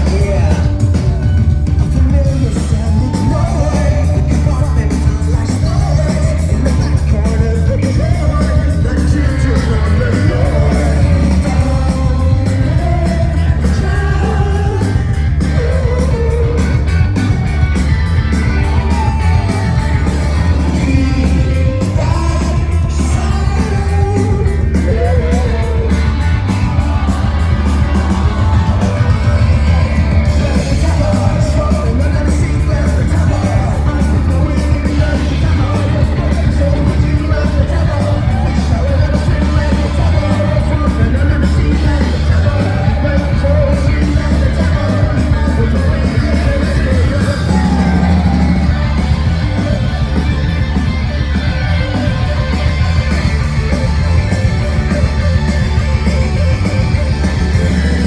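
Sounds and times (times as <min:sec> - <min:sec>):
heavy bass: 0:00.0 - 0:58.0
person singing: 0:00.0 - 0:58.0
rapid driving drums: 0:00.0 - 0:58.0
rock band playing live: 0:00.0 - 0:58.0.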